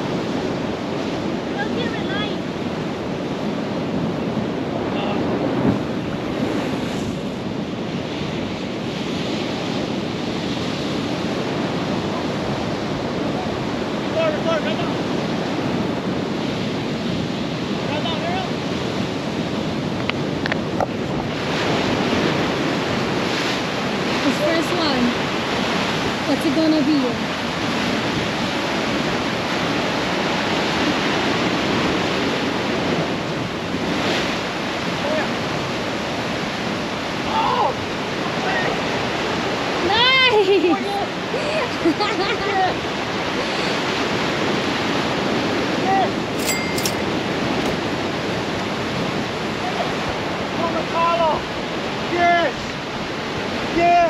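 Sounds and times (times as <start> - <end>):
wind on microphone: 0.0 - 50.7
ocean surf: 0.0 - 54.0.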